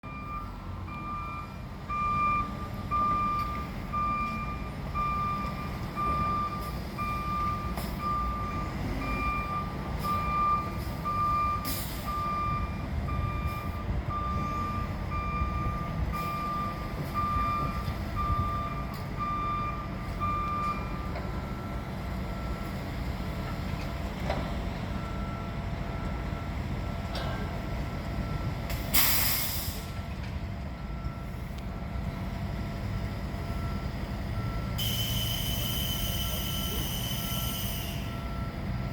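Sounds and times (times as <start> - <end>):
reversing alarm beeping: 0.0 - 23.0, 24.8 - 27.4, 28.2 - 30.0, 30.7 - 31.6, 33.2 - 38.9
diesel engine running: 0.0 - 38.9.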